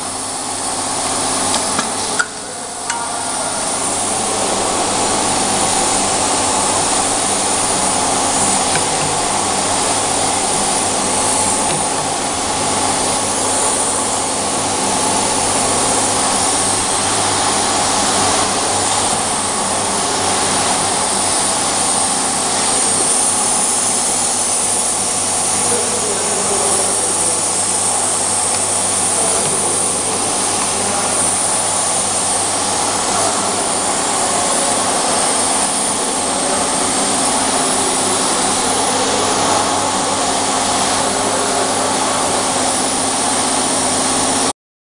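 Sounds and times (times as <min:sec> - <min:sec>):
machine whirring and humming: 0:00.0 - 0:44.5.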